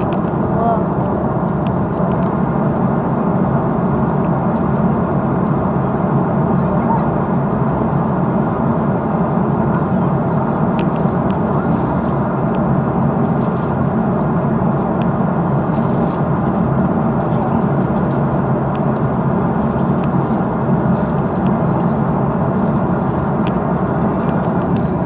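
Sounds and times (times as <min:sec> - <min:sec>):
airliner cabin engine rush: 0:00.0 - 0:25.0.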